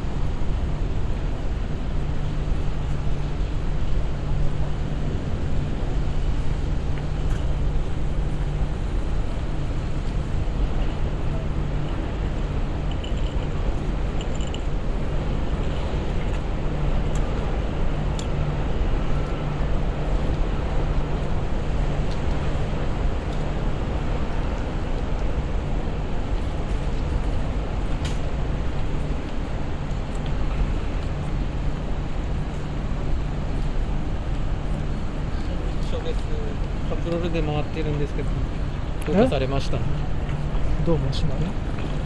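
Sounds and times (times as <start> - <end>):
constant low hum: 0.0 - 42.0
traffic noise: 0.0 - 42.0.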